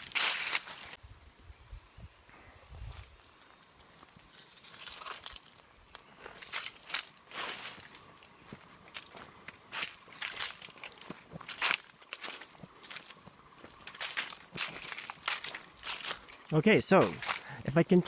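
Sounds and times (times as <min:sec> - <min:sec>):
footsteps on leafy trail: 0:00.0 - 0:01.0, 0:02.8 - 0:18.0
high-pitched insect drone: 0:00.0 - 0:18.0.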